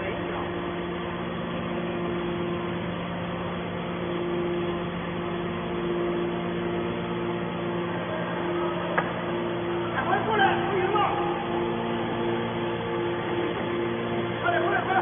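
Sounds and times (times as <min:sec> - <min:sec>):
higher mechanical tone: 0:00.0 - 0:15.0
hydraulic baler motor humming: 0:00.0 - 0:15.0.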